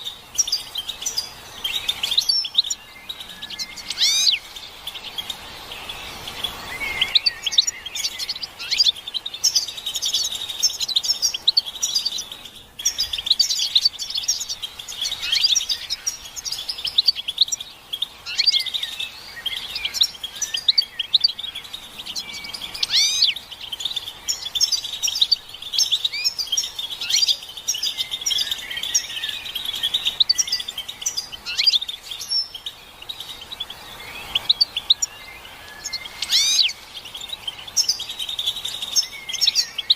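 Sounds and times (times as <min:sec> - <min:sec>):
goldfinches chirping and twittering: 0:00.0 - 0:39.9.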